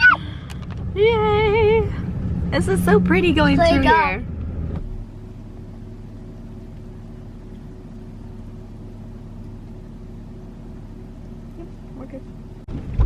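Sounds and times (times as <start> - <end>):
car engine droning inside cabin: 0.0 - 13.0.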